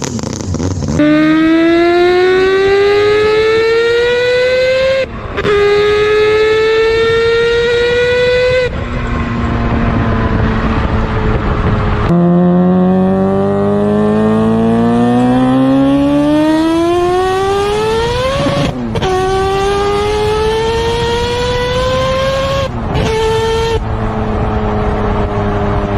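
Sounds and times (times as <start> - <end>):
car engine accelerating hard: 0.0 - 25.9.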